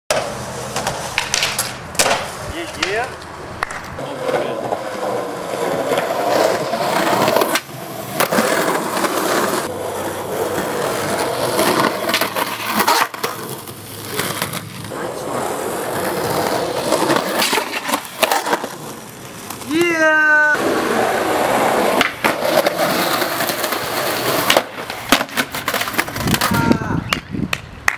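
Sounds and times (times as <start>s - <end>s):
skateboard clacking on ground: 0.1s - 21.1s, 21.8s - 27.9s
skateboard wheels rolling on concrete: 0.1s - 27.9s.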